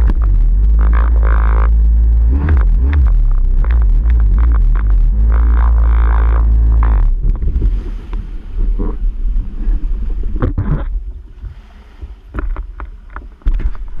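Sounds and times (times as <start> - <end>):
watercraft engine rumble: 0.0 - 14.0
wind on microphone: 0.0 - 14.0.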